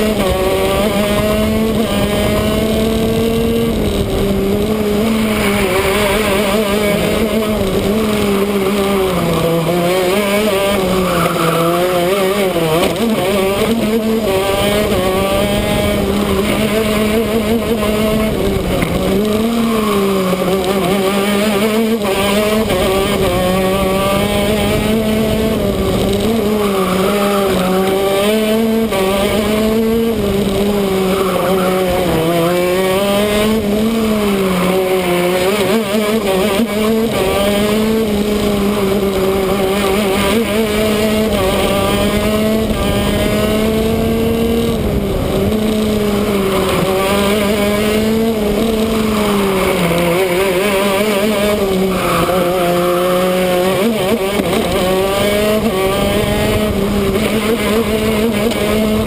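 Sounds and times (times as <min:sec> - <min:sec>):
kart engine at high revs: 0:00.0 - 0:59.0.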